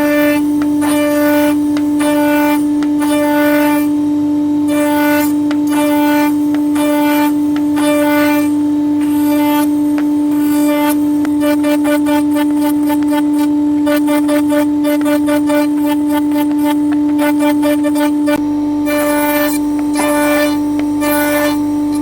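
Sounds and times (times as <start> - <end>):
held drone note: 0.0 - 22.0.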